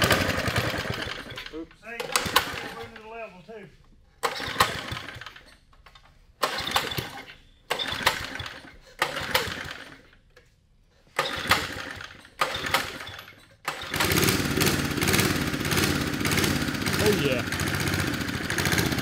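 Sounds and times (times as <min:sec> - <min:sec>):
small engine sputtering and running: 0:00.0 - 0:03.0, 0:04.2 - 0:05.5, 0:06.4 - 0:10.2, 0:11.2 - 0:19.0
recoil cord pulls: 0:00.0 - 0:03.1, 0:04.2 - 0:10.5, 0:11.1 - 0:19.0.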